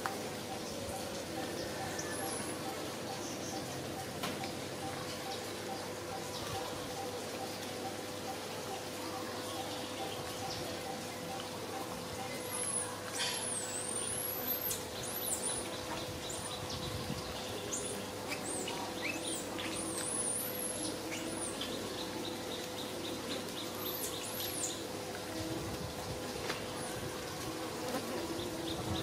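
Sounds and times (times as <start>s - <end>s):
small birds chirping: 0.4s - 24.9s.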